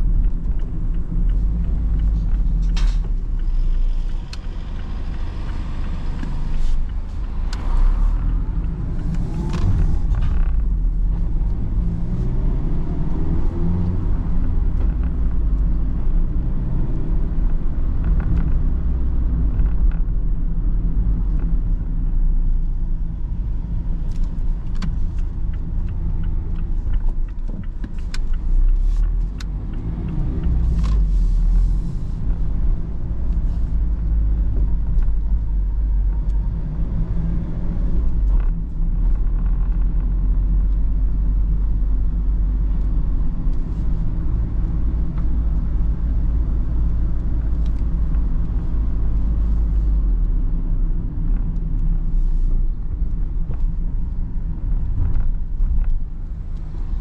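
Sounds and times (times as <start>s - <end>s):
light clicks and ticks: 0.0s - 20.2s, 23.0s - 57.0s
car engine running: 0.0s - 57.0s
road noise rumble: 0.0s - 57.0s.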